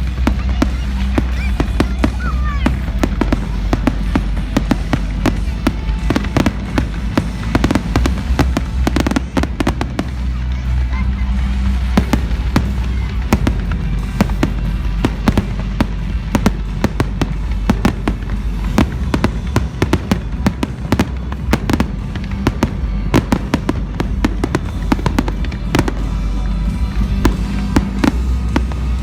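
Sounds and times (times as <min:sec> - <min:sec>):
fireworks cracking and popping: 0:00.0 - 0:29.0.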